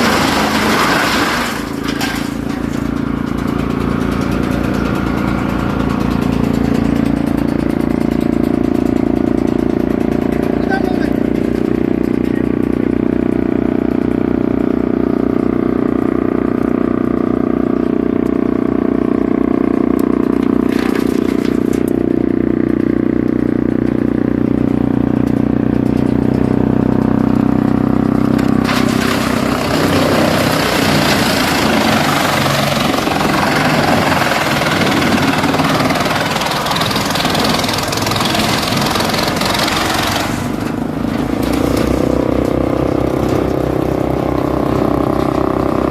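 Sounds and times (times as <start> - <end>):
wood chipper chipping material: 0.0 - 45.9
wood chipper engine hum: 0.0 - 45.9.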